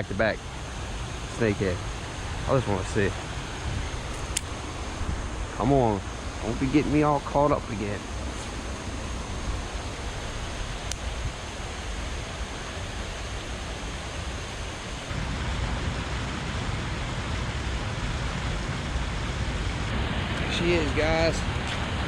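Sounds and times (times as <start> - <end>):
floodwater rushing: 0.0 - 22.0
wind buffeting microphone: 0.0 - 22.0.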